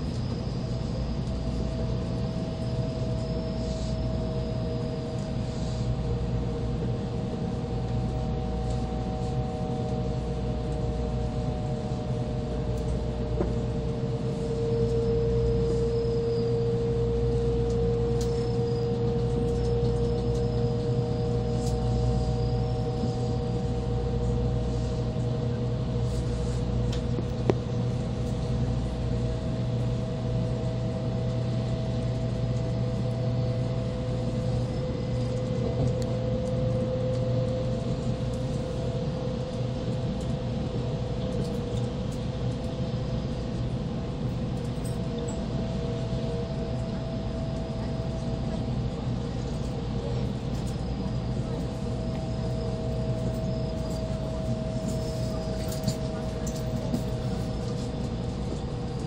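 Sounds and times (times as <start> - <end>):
steady whine: 0.0 - 59.0
train running gear rumble: 0.0 - 59.0.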